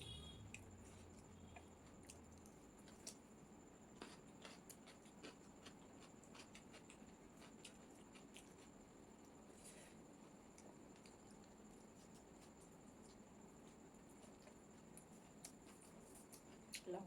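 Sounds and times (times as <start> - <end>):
soft wet chewing: 0.5 - 17.0.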